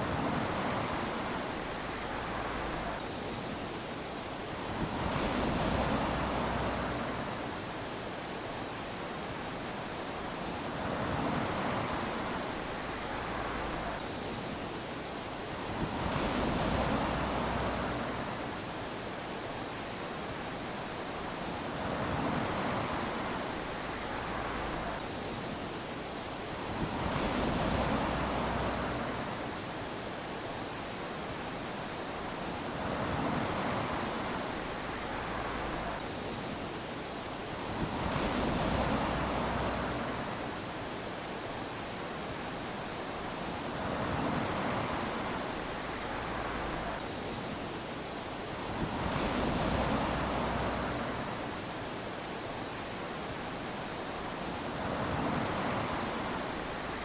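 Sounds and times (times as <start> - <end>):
waves lapping on sand: 0.0 - 57.0.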